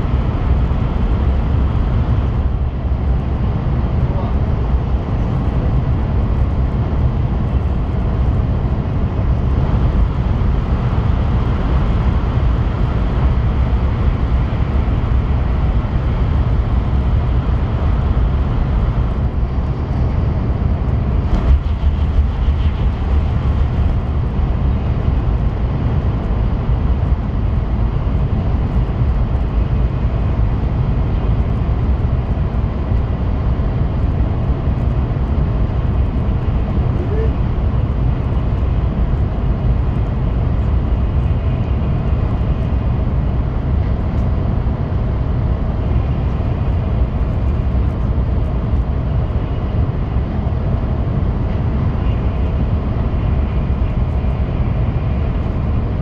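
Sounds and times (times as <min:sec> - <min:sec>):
train interior low rumble: 0:00.0 - 0:56.0.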